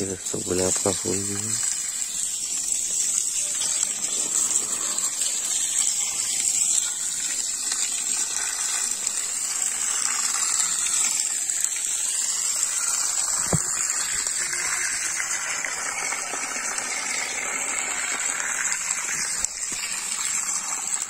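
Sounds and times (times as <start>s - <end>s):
water gushing from a pipe: 0.0s - 21.0s.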